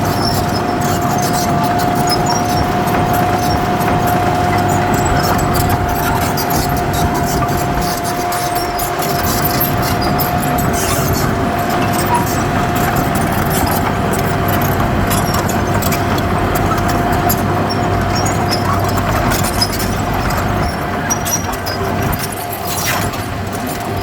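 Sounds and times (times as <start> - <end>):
diesel engine of heavy machinery: 0.0 - 24.0.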